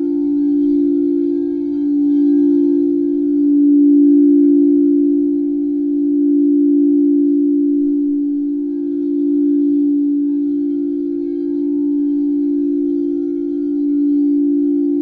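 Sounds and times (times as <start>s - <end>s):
singing bowl low tone: 0.0s - 15.0s.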